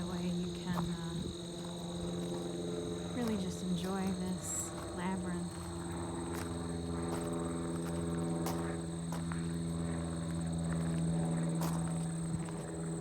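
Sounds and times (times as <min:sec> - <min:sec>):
soft footsteps on path: 0:00.0 - 0:13.0
steady low hum: 0:00.0 - 0:13.0.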